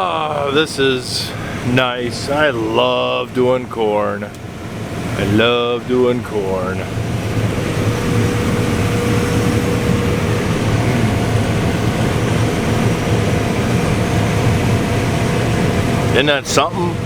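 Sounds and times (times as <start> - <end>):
combine harvester drone: 0.0 - 17.0
steady mechanical whine: 0.0 - 17.0.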